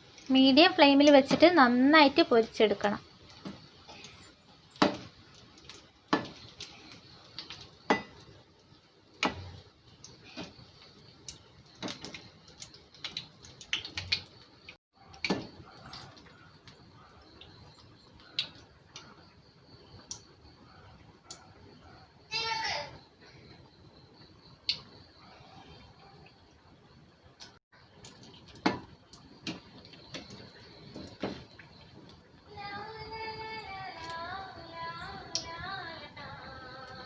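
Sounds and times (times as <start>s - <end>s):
hot oil sizzling: 0.0s - 26.3s, 27.2s - 37.0s.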